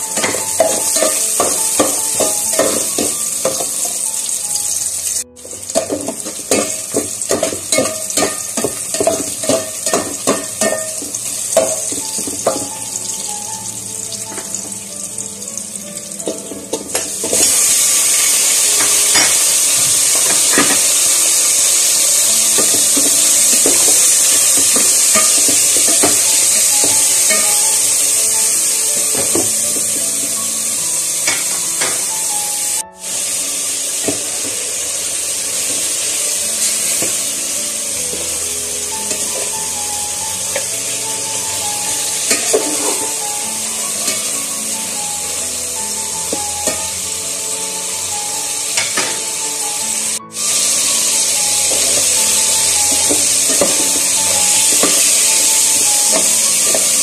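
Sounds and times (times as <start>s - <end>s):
chicken frying loudly: 0.0s - 57.0s
onion and garlic sizzling in oil: 0.0s - 57.0s.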